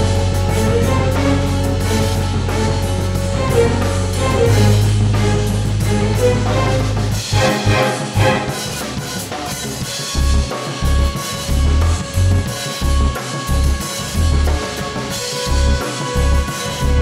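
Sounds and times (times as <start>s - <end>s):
music with bass-drum beat: 0.0s - 17.0s.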